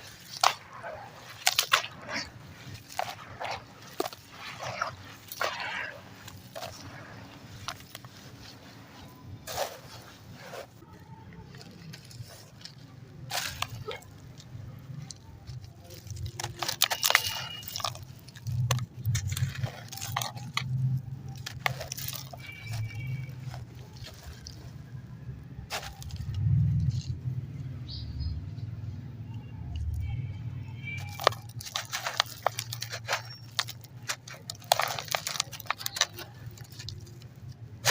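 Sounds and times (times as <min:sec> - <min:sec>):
concrete crunching in hands: 0:00.0 - 0:28.3, 0:29.7 - 0:37.9.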